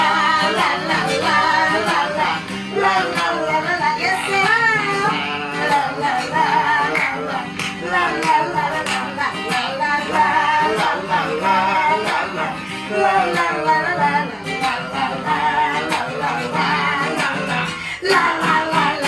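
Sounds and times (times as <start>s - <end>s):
acoustic guitar strumming: 0.0s - 19.0s
woman and man singing: 0.0s - 19.0s.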